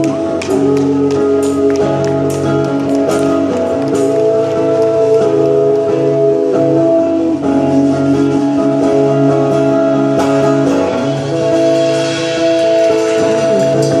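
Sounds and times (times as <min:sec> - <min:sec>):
guitar playing held chords: 0:00.0 - 0:14.0.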